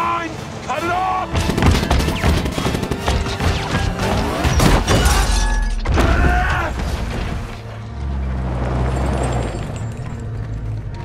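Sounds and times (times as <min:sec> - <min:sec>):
film music: 0:00.0 - 0:11.0.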